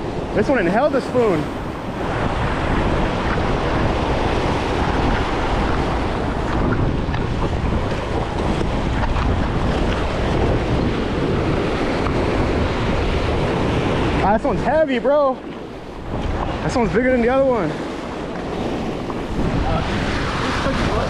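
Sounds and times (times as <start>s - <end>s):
waves washing against rocks: 0.0s - 21.0s
wind blowing across microphone: 0.0s - 21.0s.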